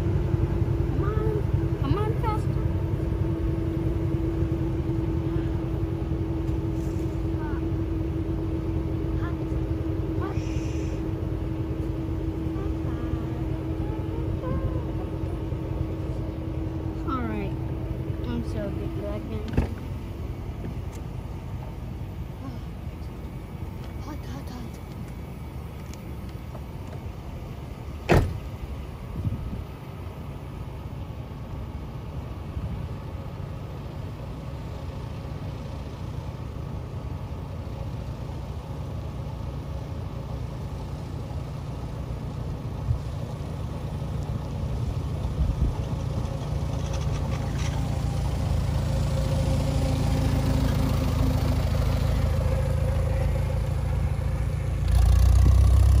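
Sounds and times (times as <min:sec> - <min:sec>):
tractor engine rumbling: 0:00.0 - 0:56.0.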